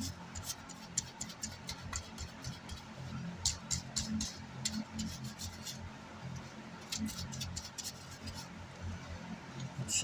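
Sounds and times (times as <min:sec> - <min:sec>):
brush scrubbing circuit board: 0:00.0 - 0:08.6
low steady hum: 0:00.0 - 0:10.0.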